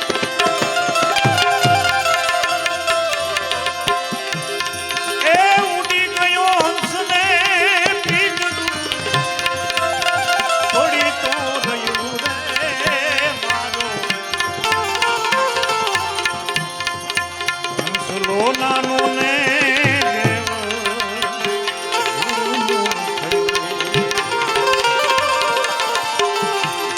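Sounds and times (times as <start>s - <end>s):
ornamented melody line: 0.0s - 26.9s
tabla beat: 0.0s - 26.9s.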